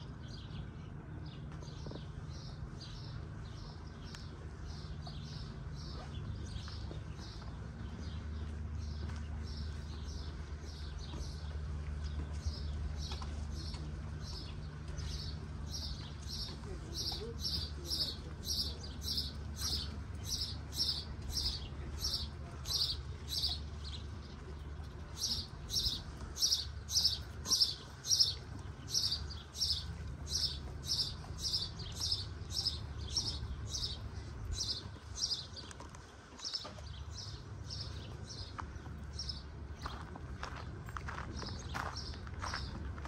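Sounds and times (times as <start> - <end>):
low background rumble: 0.0 - 43.0.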